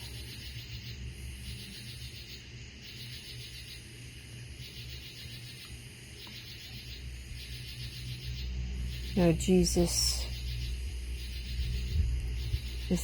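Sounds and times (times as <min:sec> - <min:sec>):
faint low hum: 0:00.0 - 0:13.0
insects buzzing: 0:00.0 - 0:13.0.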